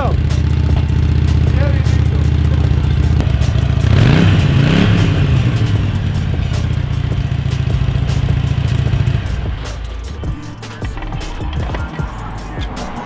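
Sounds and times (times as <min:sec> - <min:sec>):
car engine revving and idling: 0:00.0 - 0:10.6.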